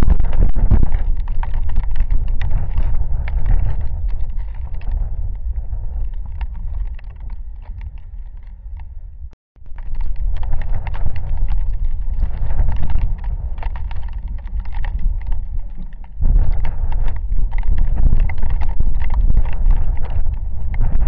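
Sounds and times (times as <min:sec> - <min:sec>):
raindrops pattering: 0:00.0 - 0:08.9, 0:09.6 - 0:21.0
wind buffeting microphone: 0:00.0 - 0:21.0.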